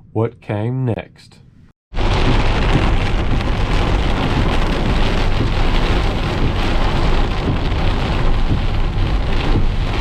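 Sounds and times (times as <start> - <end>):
heavy rain pouring: 2.0 - 10.0.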